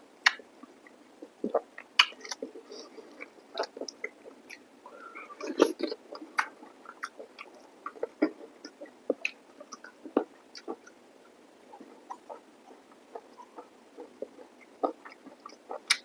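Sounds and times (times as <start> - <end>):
mouth chewing food: 0.2 - 16.0.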